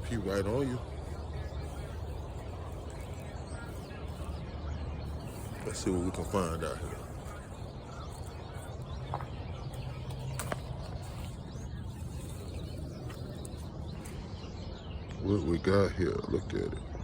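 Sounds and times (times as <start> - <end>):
faint bird calls: 0.0 - 17.0.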